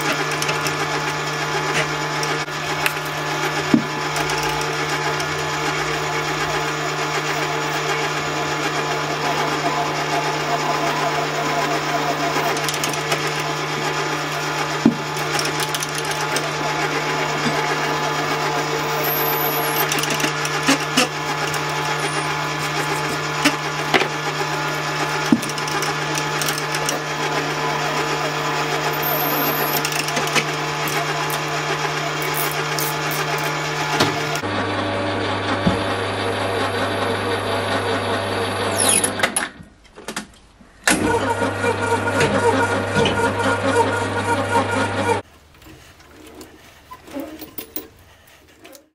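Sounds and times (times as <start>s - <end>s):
drill press spindle hum: 0.0s - 39.4s.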